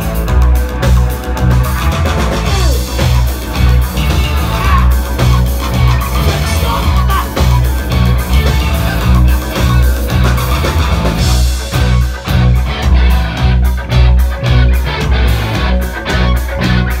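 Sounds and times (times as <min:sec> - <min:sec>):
drums steady beat: 0:00.0 - 0:17.0
electric guitar: 0:00.0 - 0:17.0
pulsing bass line: 0:00.0 - 0:17.0.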